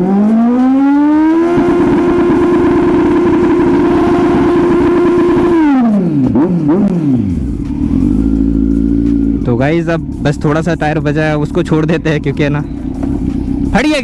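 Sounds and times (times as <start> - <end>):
motorcycle engine revving high: 0.0 - 14.0
engine idling: 0.9 - 14.0.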